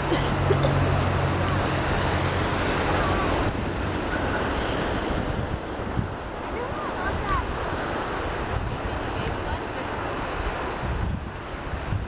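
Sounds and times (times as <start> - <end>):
ocean surf on beach: 0.0 - 12.0
wind buffeting microphone: 0.0 - 12.0.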